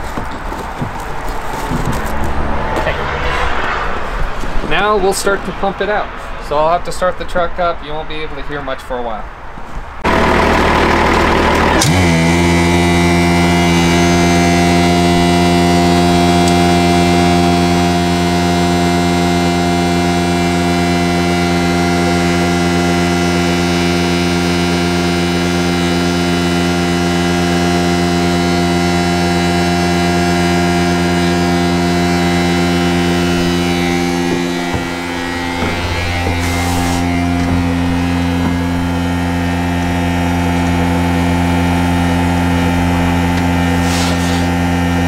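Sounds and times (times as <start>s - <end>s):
truck engine and vacuum pump drone: 0.0s - 6.4s, 9.6s - 45.0s.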